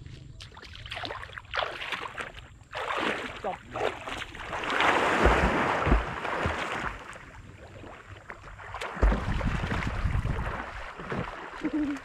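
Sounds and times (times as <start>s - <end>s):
water sloshing and splashing: 0.1s - 12.0s.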